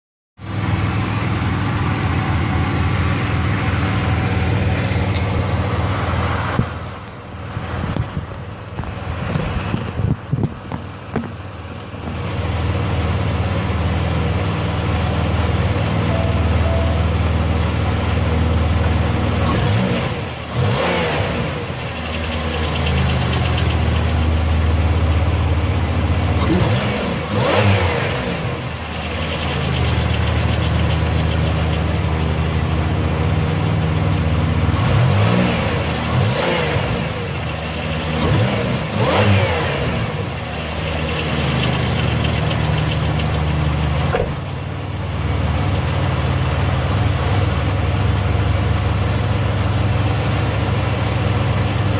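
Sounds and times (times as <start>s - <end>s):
car engine idling and revving: 0.4s - 51.9s.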